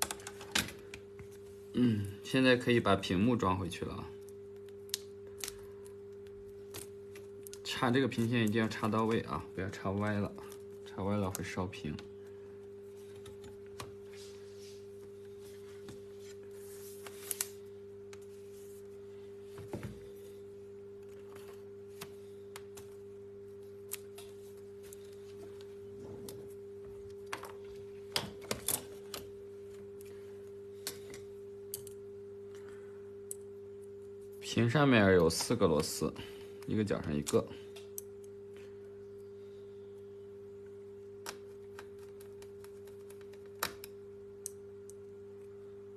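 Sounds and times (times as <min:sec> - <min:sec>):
faint electrical hum: 0:00.0 - 0:45.9.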